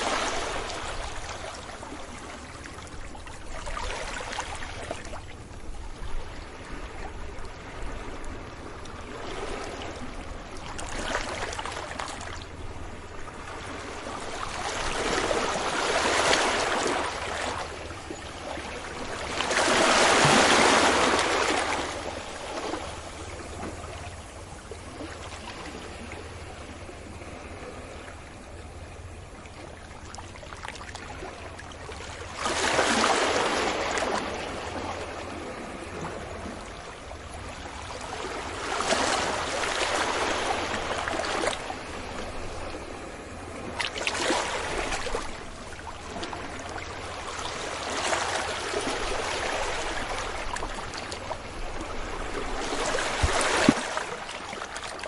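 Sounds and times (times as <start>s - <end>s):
sea waves breaking on beach: 0.0s - 5.4s, 6.1s - 28.0s, 30.2s - 55.0s.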